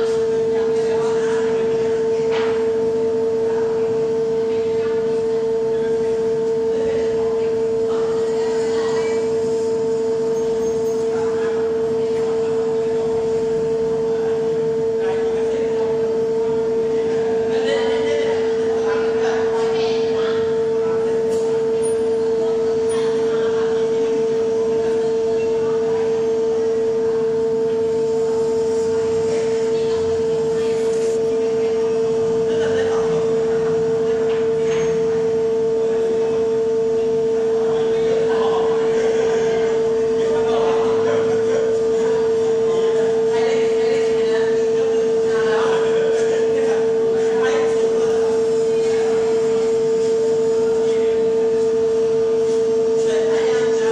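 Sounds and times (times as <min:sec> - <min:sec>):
testing machine high-pitched hum: 0:00.0 - 0:53.9.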